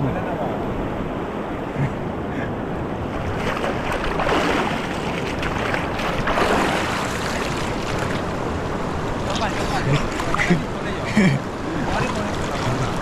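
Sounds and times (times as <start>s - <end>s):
river water rushing and splashing: 1.0s - 13.0s.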